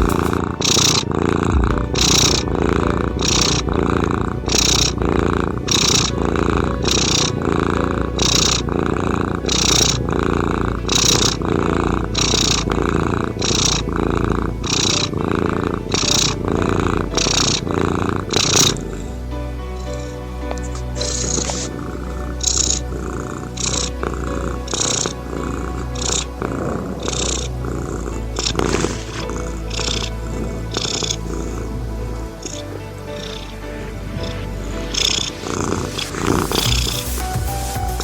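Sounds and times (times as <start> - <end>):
cat purring: 0.0 - 19.2, 20.0 - 32.6, 33.2 - 37.0
soft music tones: 0.0 - 38.0.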